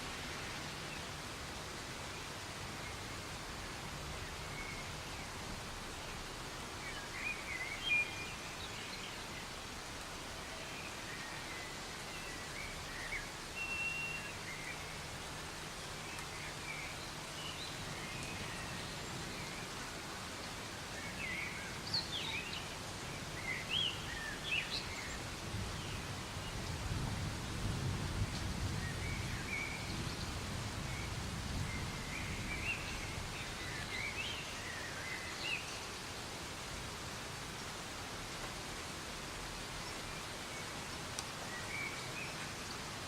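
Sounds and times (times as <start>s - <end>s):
soft rain hissing: 0.0s - 43.0s.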